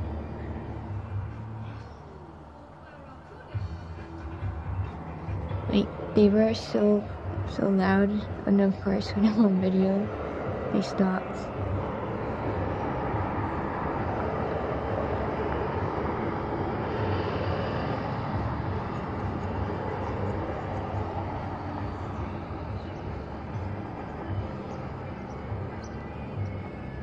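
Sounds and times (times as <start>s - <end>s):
steady rumbling background noise: 0.0s - 27.0s.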